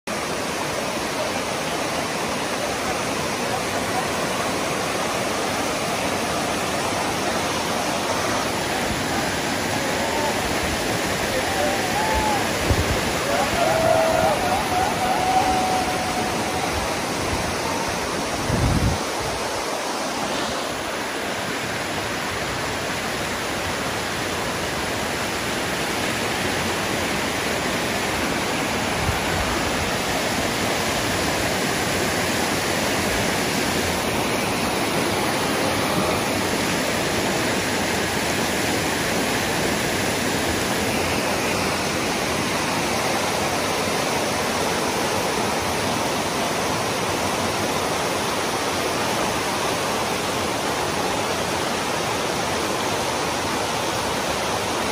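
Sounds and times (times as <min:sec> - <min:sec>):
water rushing over rock shelves: 0:00.1 - 0:54.9.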